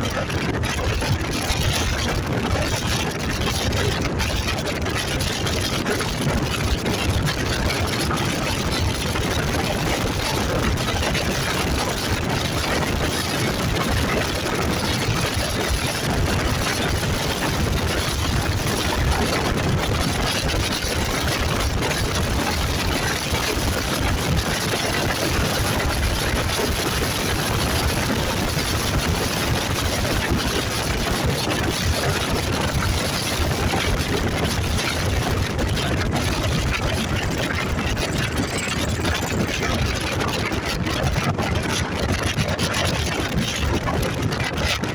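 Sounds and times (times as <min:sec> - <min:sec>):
motorcycle running: 0:00.0 - 0:44.8
constant rushing noise: 0:00.0 - 0:44.9.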